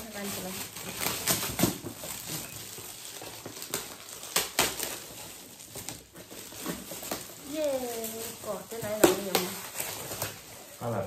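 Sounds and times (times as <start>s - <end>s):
metallic gift wrap crinkling: 0.0s - 11.0s.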